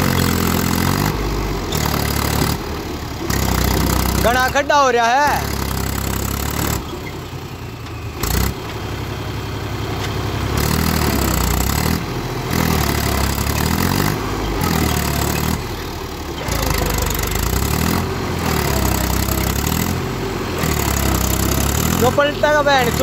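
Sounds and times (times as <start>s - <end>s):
tractor diesel engine labouring: 0.0s - 23.0s.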